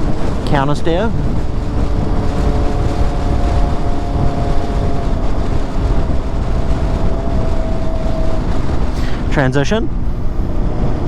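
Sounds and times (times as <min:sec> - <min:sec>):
motorcycle engine cruising: 0:00.0 - 0:11.0
wind noise rushing: 0:00.0 - 0:11.0.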